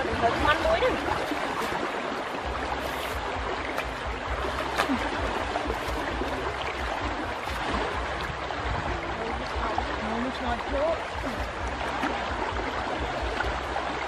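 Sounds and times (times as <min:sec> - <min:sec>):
river water splashing: 0:00.0 - 0:14.0.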